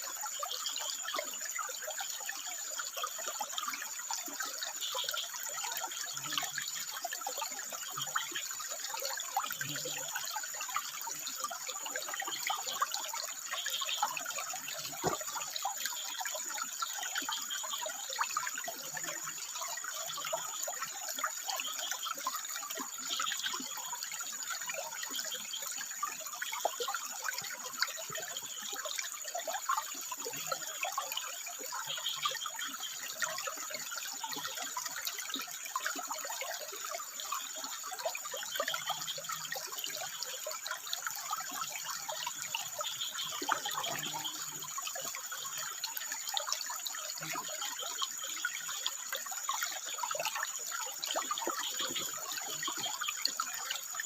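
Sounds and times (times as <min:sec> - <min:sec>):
water trickling over rocks: 0:00.0 - 0:54.0.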